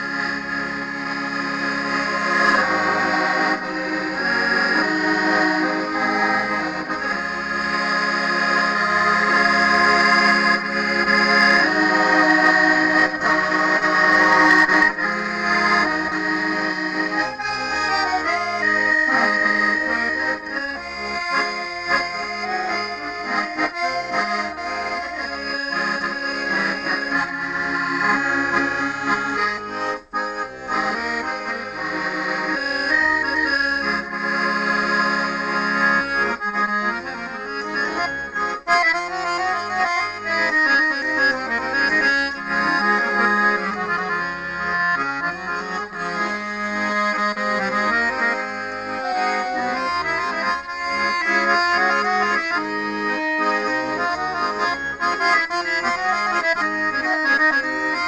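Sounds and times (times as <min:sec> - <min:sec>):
button accordion playing a tune: 0:00.0 - 0:58.0.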